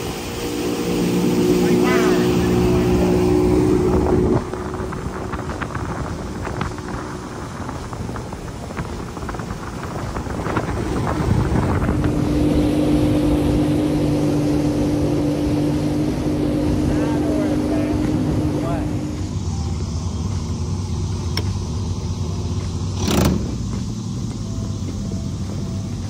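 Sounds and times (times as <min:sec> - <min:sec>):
wind buffeting microphone: 0:00.0 - 0:25.8
outboard motor drone: 0:00.0 - 0:26.0.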